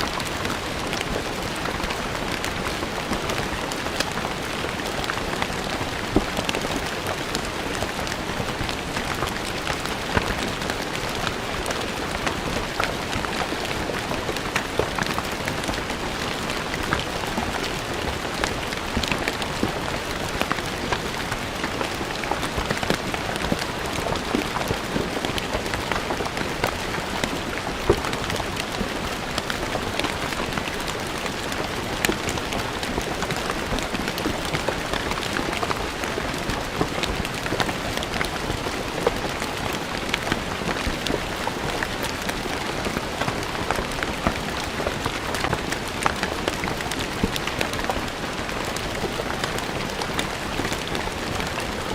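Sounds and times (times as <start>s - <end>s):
rain on stone paving: 0.0s - 51.9s.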